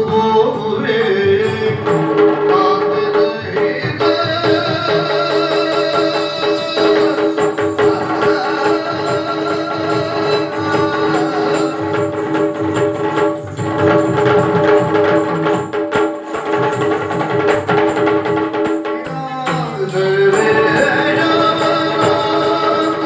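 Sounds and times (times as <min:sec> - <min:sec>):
fast dense drumming: 0:01.1 - 0:23.0.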